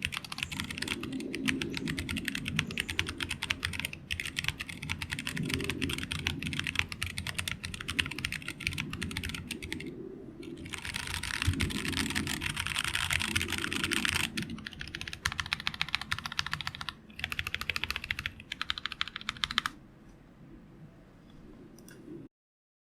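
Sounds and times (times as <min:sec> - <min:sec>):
mechanical keyboard typing: 0:00.0 - 0:09.9, 0:10.5 - 0:19.8.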